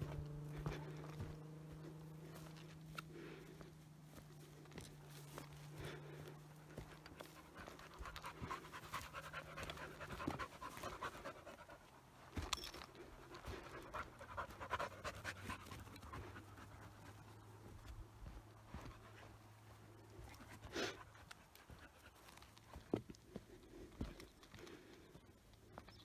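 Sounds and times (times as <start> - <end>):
rapid panting breaths: 0.0 - 25.7.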